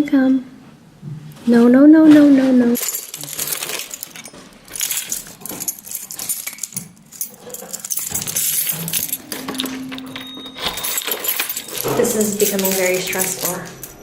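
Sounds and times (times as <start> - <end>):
metal pieces clinking and jingling: 2.8 - 14.0.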